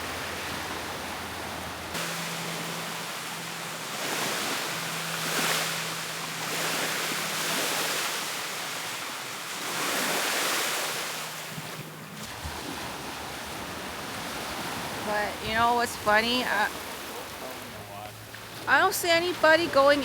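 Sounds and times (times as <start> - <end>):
sea waves breaking on sand: 0.0 - 20.0.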